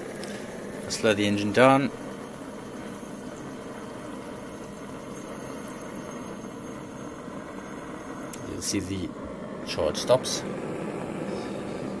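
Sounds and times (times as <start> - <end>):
stirling engine hiss and whir: 0.0 - 12.0.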